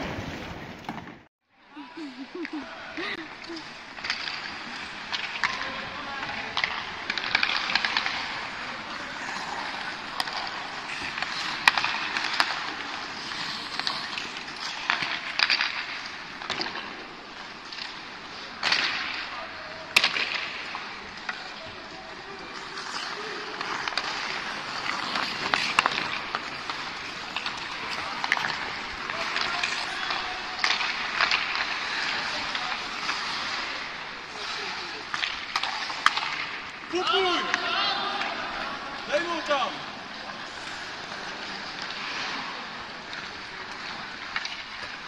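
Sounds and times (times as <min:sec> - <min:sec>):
ice skate blades scraping ice: 0:00.0 - 0:01.3, 0:03.0 - 0:45.0
hockey sticks clacking on puck: 0:03.4 - 0:45.0.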